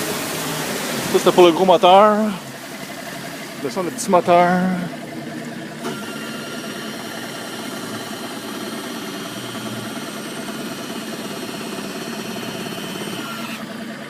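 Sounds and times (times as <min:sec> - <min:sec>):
electric tilt motor whining: 0:00.0 - 0:14.0.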